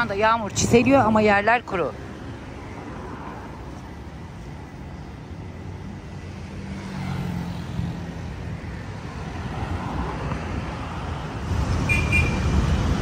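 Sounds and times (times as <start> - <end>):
passing engine hum: 0.0 - 13.0
rumble of road traffic: 0.0 - 13.0.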